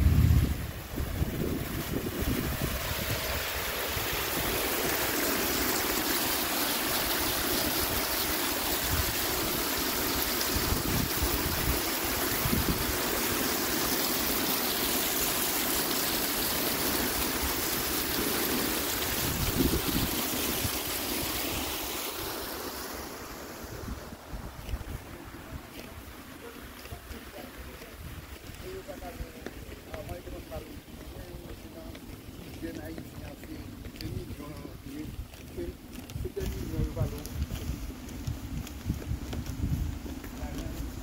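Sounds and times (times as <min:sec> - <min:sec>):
fountain water splashing: 0:00.0 - 0:41.0.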